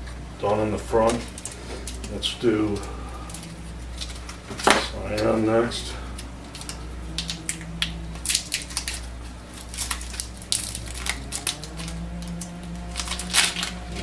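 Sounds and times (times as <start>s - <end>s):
plastic wrapping crinkling and tearing: 0.8s - 14.0s.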